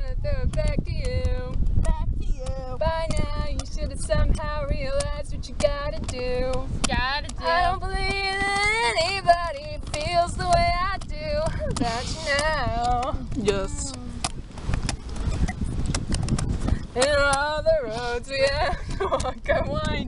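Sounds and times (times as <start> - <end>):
young women singing: 0.0 - 14.2, 16.8 - 18.8
wind rumble on microphone: 0.0 - 20.0.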